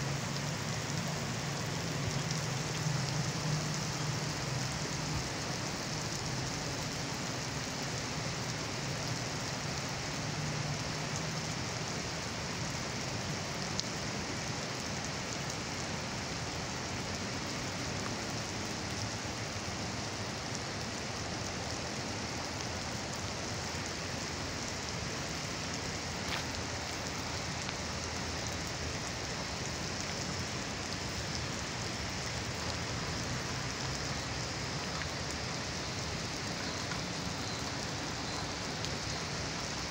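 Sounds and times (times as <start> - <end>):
heavy rain on asphalt: 0.0 - 39.9.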